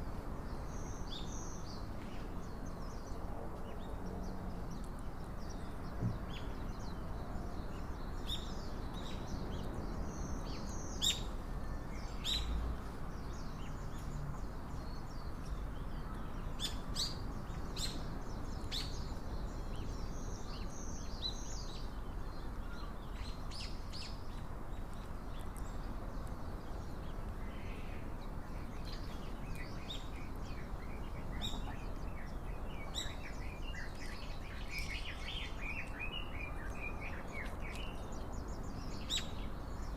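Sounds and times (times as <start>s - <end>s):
low outdoor background hum: 0.0s - 39.9s
small birds chirping: 0.0s - 39.9s.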